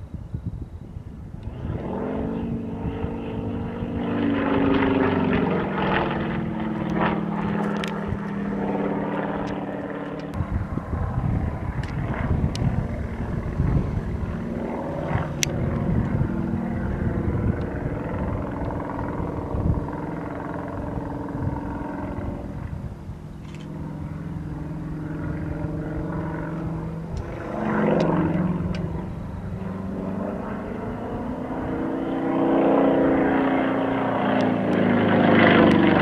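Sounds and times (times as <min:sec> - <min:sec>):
low microphone rumble: 0:00.0 - 0:36.0
propeller plane engine droning: 0:00.0 - 0:36.0.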